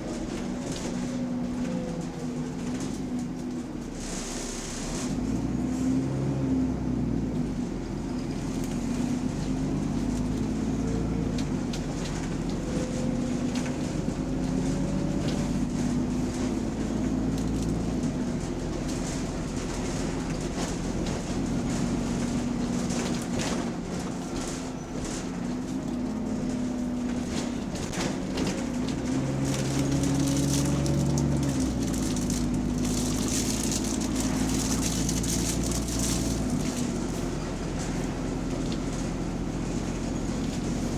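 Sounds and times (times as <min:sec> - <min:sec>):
bus engine with exhaust leak: 0:00.0 - 0:40.9.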